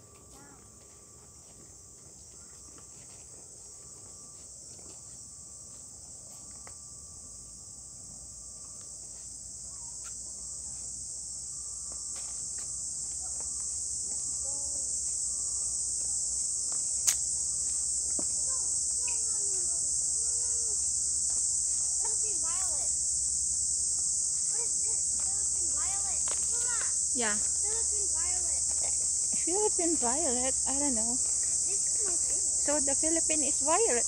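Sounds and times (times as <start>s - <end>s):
insects calling: 0.0s - 34.0s.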